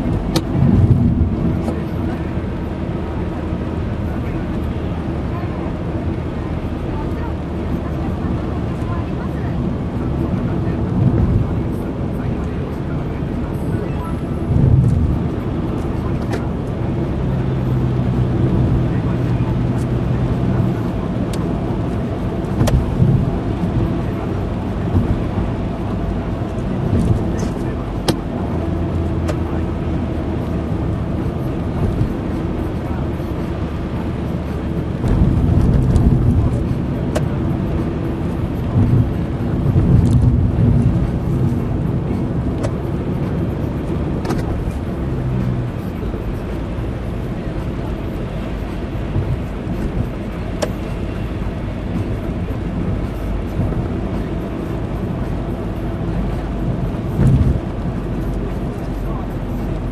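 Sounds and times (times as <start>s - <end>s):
low engine hum: 0.0s - 59.9s
road and tyre noise: 0.0s - 59.9s.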